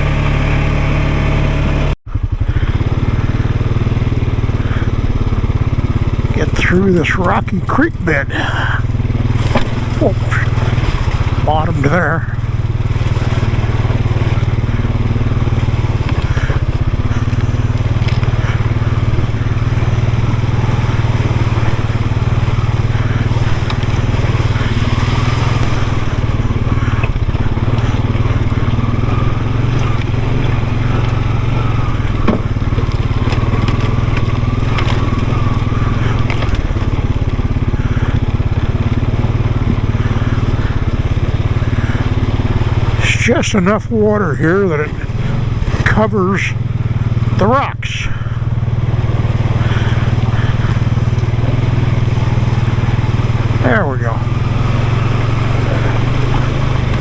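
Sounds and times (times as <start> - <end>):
vehicle engine running: 0.0 - 57.0
tyres crunching over rocks: 2.5 - 57.0.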